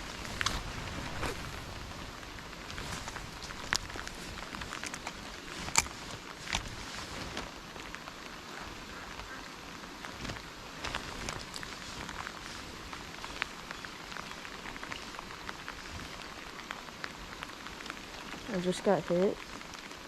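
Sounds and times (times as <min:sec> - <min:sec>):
rain falling: 0:00.0 - 0:20.0
raindrops ticking: 0:00.0 - 0:20.0.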